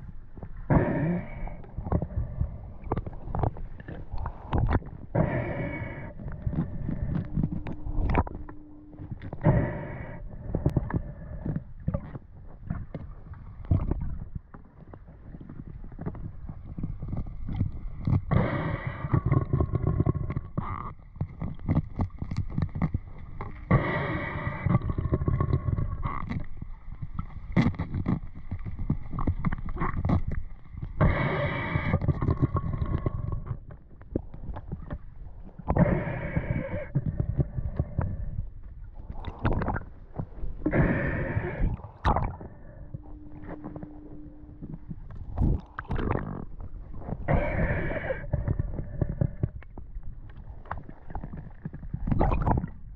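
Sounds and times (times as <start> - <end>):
water sloshing and gurgling: 0.0 - 52.9.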